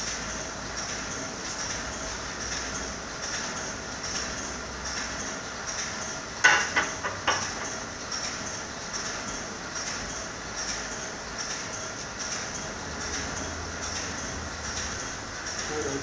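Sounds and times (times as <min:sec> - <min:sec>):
machine rhythmic mechanical clatter: 0:00.0 - 0:16.0.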